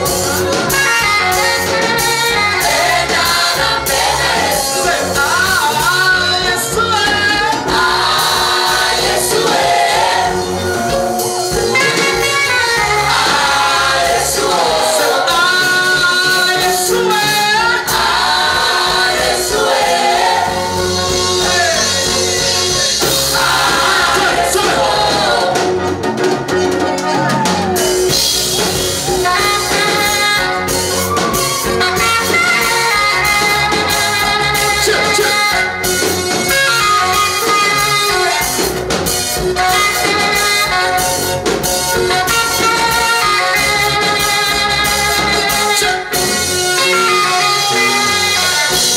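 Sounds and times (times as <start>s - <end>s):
gospel singing: 0.0s - 38.6s, 39.6s - 48.9s
band with steady beat: 0.0s - 48.9s.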